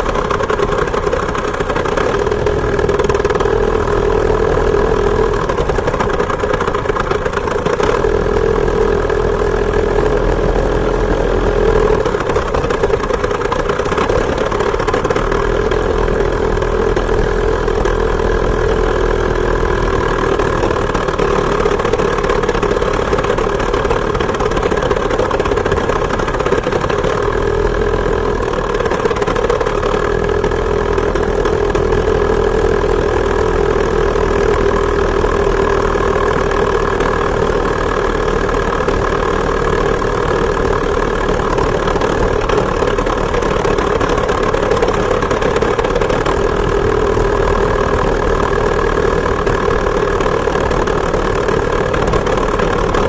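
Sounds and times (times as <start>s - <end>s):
two-stroke moped engine running: 0.0s - 53.0s.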